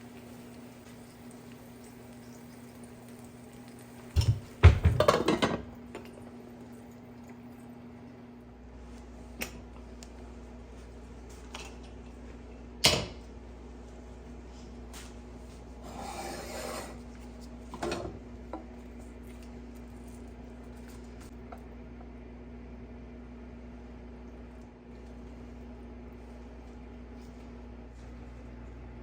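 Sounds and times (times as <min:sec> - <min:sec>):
low appliance hum: 0:00.0 - 0:29.0.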